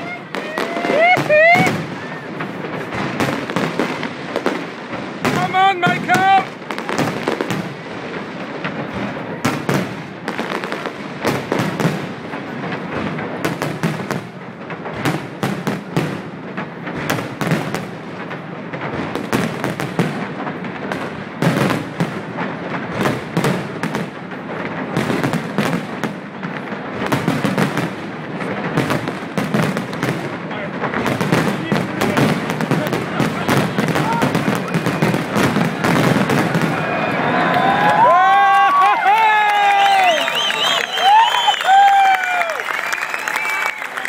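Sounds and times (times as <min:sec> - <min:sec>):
fireworks crackling: 0:00.0 - 0:44.0.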